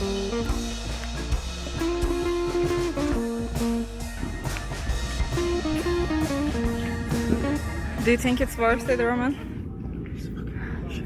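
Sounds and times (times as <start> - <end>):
guitar-led instrumental music: 0.0 - 9.2
steady drum beat: 0.0 - 9.2.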